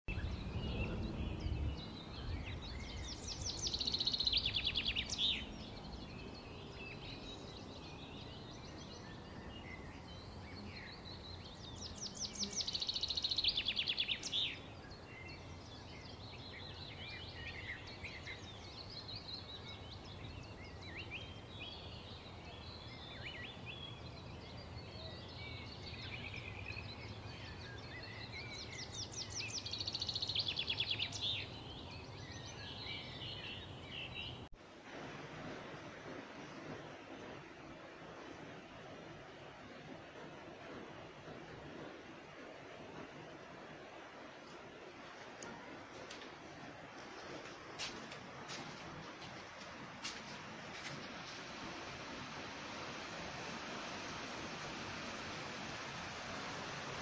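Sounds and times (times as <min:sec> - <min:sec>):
birds chirping: 0:00.0 - 0:34.7, 0:35.5 - 0:57.0
low steady background noise: 0:00.1 - 0:57.0.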